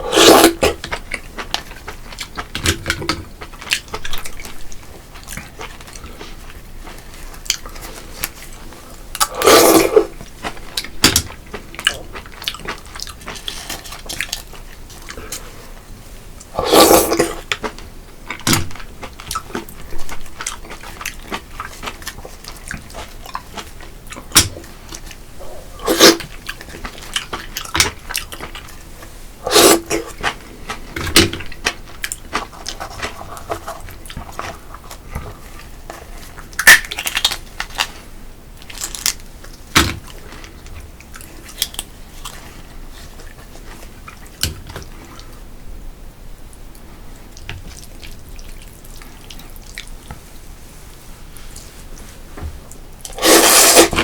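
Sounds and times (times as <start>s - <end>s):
man chewing and crunching: 0.0s - 45.5s, 46.6s - 50.4s.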